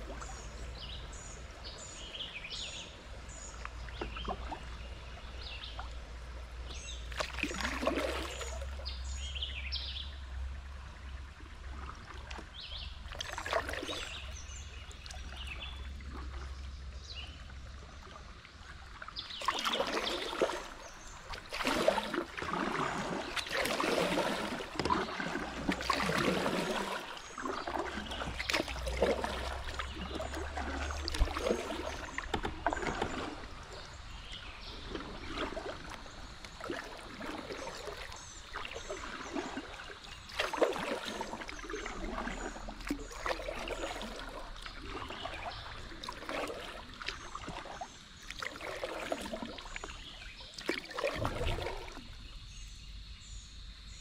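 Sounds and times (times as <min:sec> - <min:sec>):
paddle splashing in water: 0:00.0 - 0:54.0
water trickling off paddle: 0:00.0 - 0:54.0.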